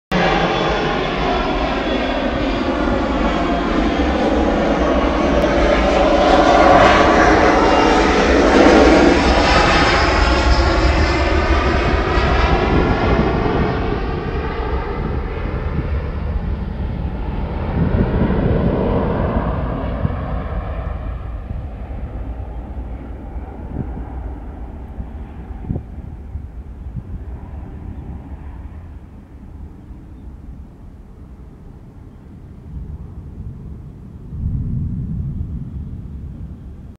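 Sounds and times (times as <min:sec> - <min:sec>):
airplane taking off: 0:00.1 - 0:36.9.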